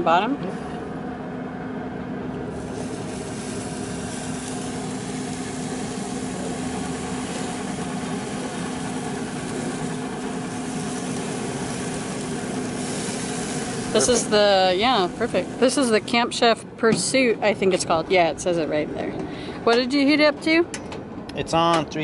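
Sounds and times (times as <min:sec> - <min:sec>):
grill fan humming: 0:00.0 - 0:22.0.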